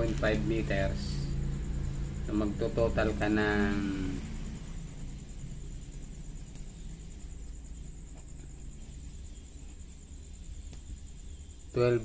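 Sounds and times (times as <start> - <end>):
cricket trilling: 0.0 - 12.0
low steady hum: 0.0 - 12.0.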